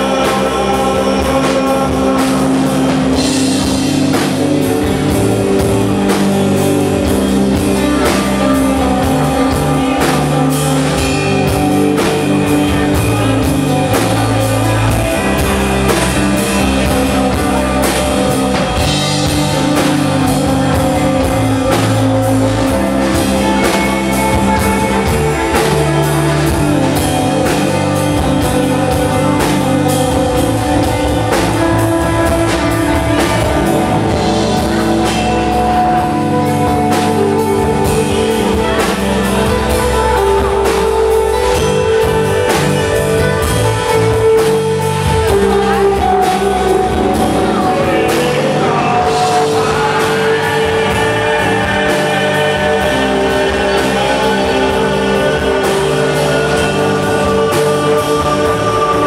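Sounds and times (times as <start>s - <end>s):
live rock band playing: 0.0s - 59.0s
steady drumbeat: 0.0s - 59.0s.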